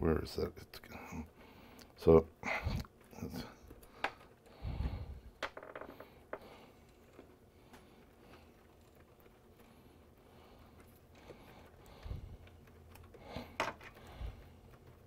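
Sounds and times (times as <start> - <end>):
cables rustling: 0.8 - 15.0.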